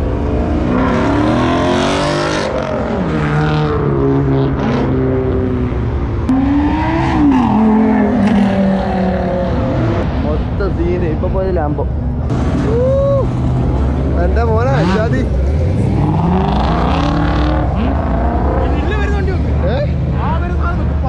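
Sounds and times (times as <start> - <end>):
sports car engines revving past: 0.0 - 10.6, 11.9 - 21.0.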